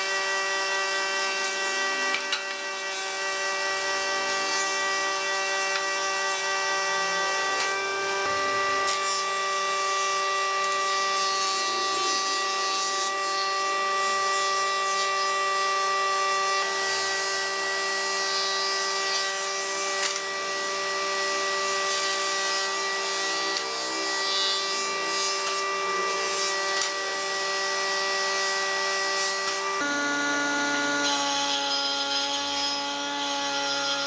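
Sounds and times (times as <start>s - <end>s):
thickness planer shaving wood: 0.0s - 34.0s.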